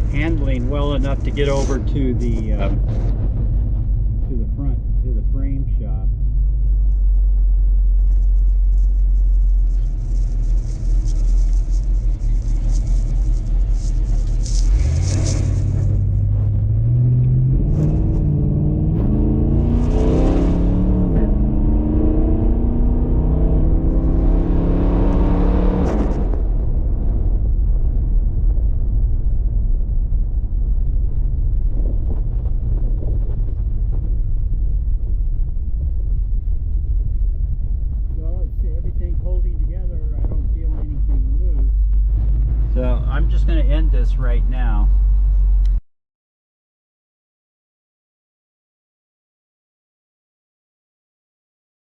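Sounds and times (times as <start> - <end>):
car engine rumble: 0.0 - 45.8.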